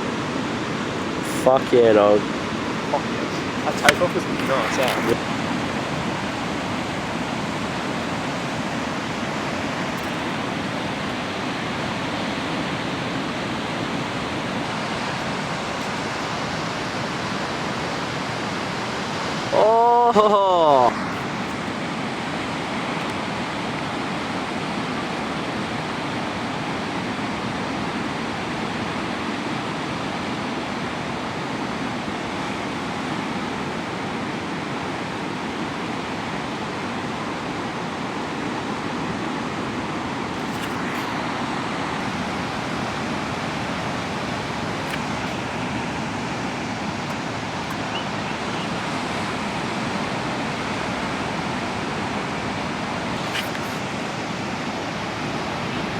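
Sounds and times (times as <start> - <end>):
ocean surf: 0.0 - 55.9.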